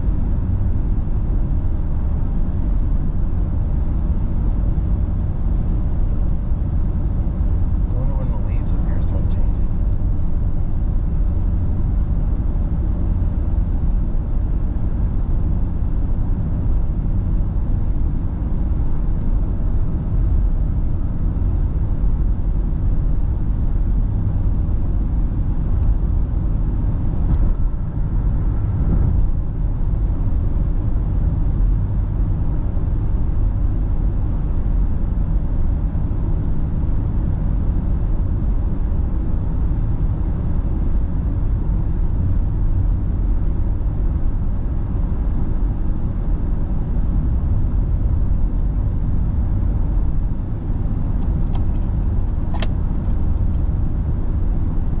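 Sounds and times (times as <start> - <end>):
vehicle cruising on highway: 0.0 - 55.0.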